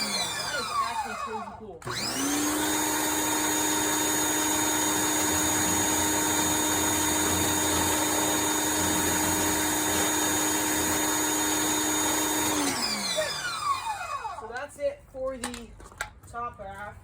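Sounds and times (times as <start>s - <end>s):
pressure washer running: 0.0s - 14.5s.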